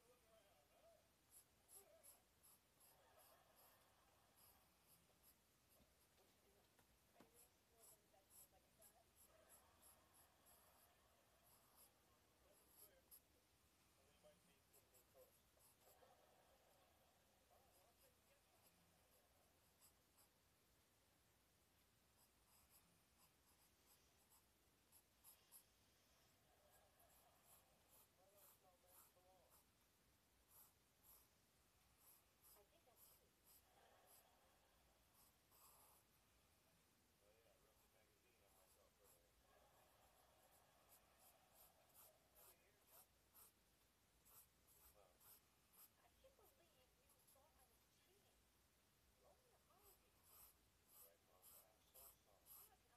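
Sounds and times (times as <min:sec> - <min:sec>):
pencil scratching on paper: 0:00.8 - 0:06.4, 0:07.2 - 0:13.3, 0:14.5 - 0:20.4, 0:22.1 - 0:25.8, 0:26.4 - 0:29.8, 0:30.4 - 0:36.1, 0:37.6 - 0:43.6, 0:44.2 - 0:47.8, 0:49.6 - 0:52.9.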